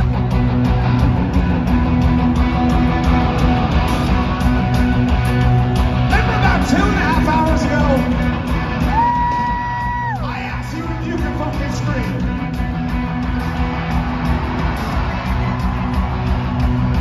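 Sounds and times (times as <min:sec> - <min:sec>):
live rock band with electric guitars: 0:00.0 - 0:17.0.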